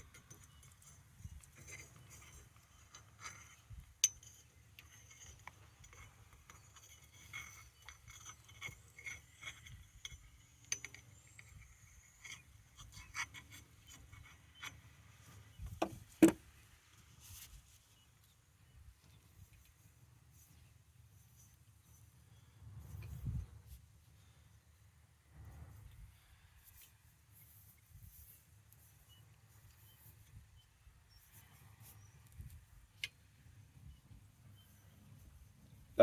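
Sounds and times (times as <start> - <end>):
light metal clinks and rubbing: 0.0 - 36.0.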